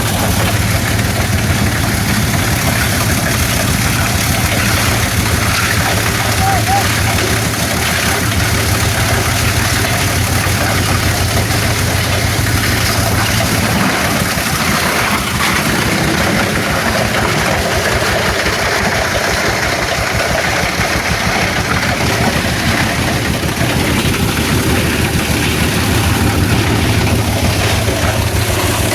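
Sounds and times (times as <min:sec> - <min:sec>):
plastic scrap grinder: 0:00.0 - 0:28.9
tractor diesel engine running: 0:00.0 - 0:28.9.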